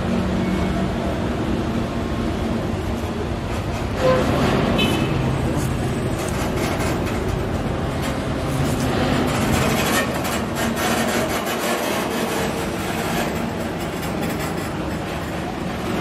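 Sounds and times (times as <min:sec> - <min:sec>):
freight train wheels clattering: 0:03.1 - 0:16.0.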